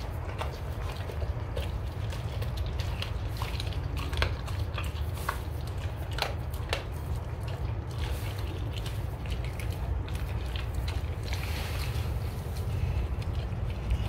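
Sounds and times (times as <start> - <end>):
bone crunching: 0.0 - 14.0
dog chewing wetly: 0.0 - 14.0
low rumble: 0.0 - 14.0.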